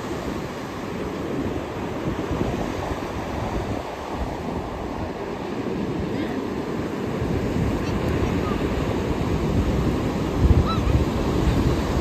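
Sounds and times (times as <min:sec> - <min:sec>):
ocean surf washing: 0:00.0 - 0:12.0
wind rumbling on microphone: 0:00.0 - 0:12.0.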